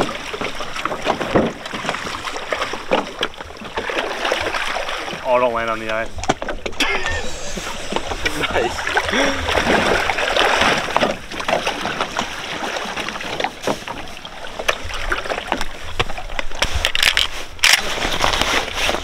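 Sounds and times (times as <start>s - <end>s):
water splashing around a boat: 0.0s - 19.0s.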